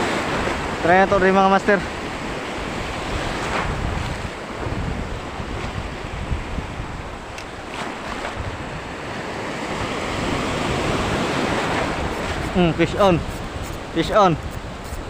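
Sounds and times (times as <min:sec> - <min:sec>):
sea waves: 0:00.0 - 0:15.0
wind buffeting microphone: 0:01.9 - 0:15.0.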